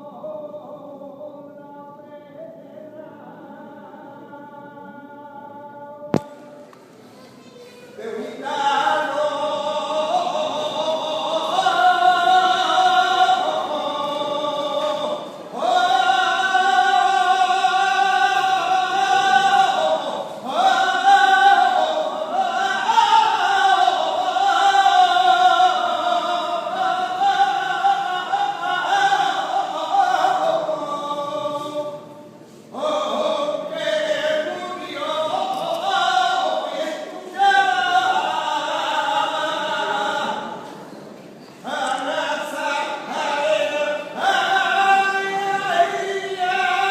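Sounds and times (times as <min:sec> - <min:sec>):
person singing solo unaccompanied: 0:07.8 - 0:40.8, 0:41.6 - 0:46.9.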